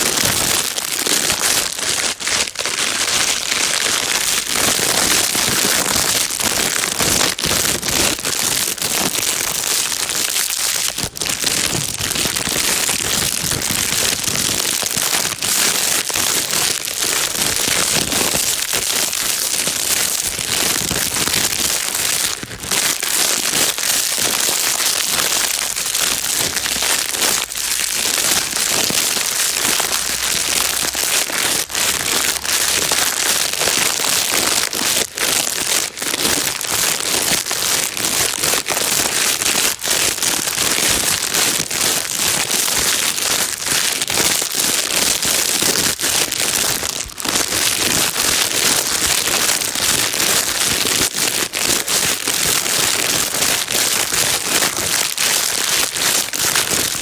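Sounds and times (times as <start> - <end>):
plastic bag crinkling: 0.0 - 57.0.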